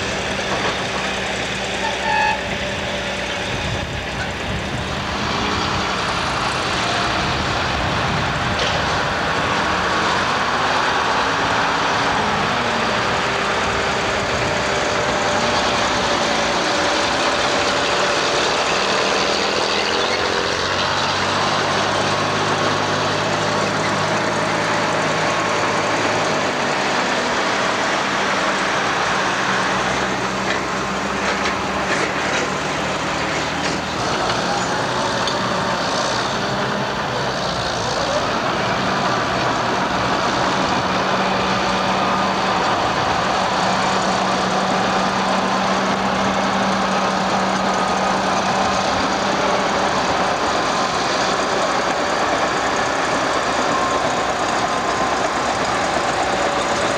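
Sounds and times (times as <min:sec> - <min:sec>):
heavy diesel truck engines: 0:00.0 - 0:56.9
hydraulic excavator running: 0:00.0 - 0:56.9.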